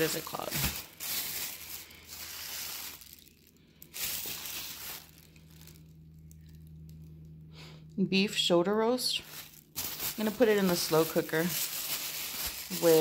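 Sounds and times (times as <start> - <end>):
plastic bag crinkling: 0.0 - 7.1, 9.1 - 13.0.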